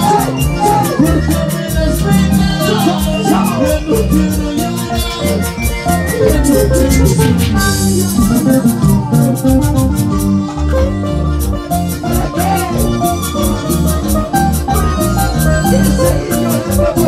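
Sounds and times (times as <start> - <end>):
live band music: 0.0 - 17.0.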